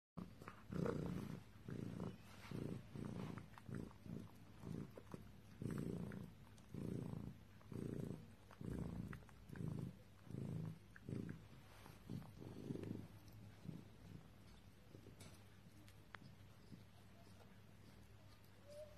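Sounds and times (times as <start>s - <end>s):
raccoon purring: 0.2s - 18.9s.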